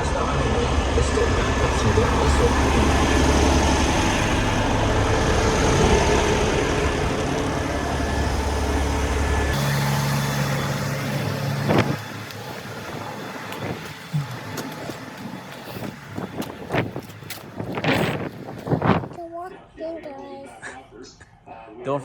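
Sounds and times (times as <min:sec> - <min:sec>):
truck engine and road rumble: 0:00.0 - 0:20.0
steady hum: 0:00.1 - 0:19.2.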